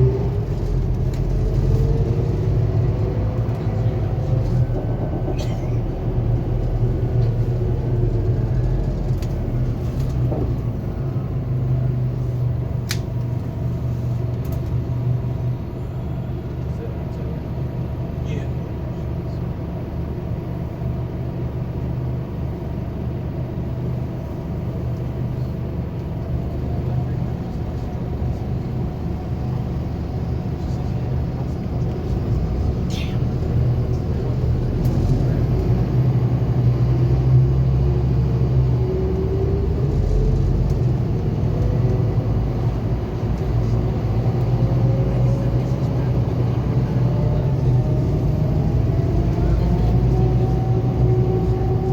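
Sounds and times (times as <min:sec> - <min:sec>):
bus diesel engine rumbling: 0:00.0 - 0:51.9.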